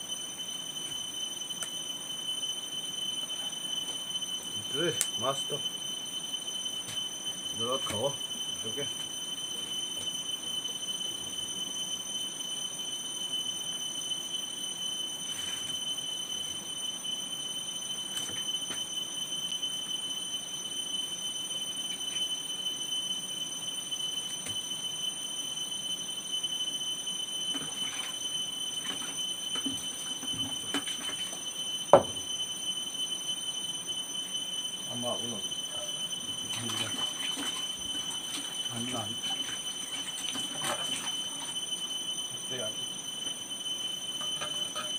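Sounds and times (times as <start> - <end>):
steady high-pitched whine: 0.0 - 44.9.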